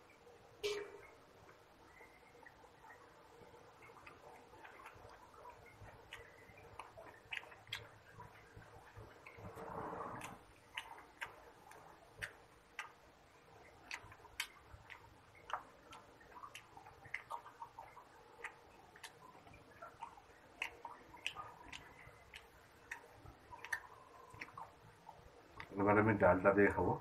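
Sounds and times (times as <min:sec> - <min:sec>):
chewing: 0:01.9 - 0:25.8.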